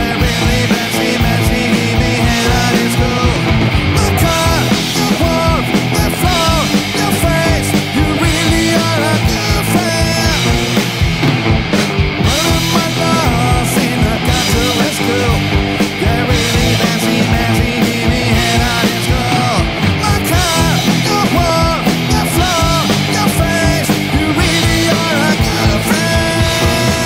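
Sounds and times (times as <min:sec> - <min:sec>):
rock song with singer and band: 0:00.0 - 0:27.0.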